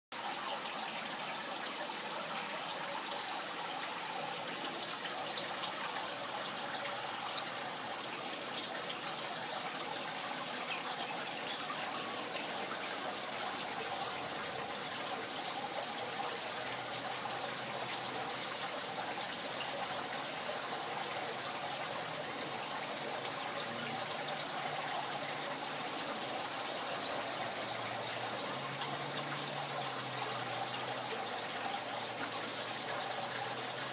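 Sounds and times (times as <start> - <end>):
water trickling and splashing: 0.1 - 33.9.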